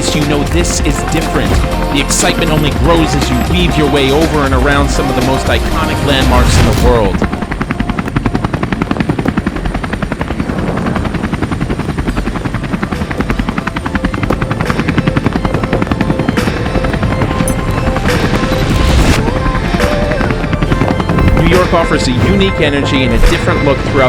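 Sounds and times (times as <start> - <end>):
helicopter engine rumble: 0.0 - 24.0
helicopter rotor chopping: 0.0 - 24.0.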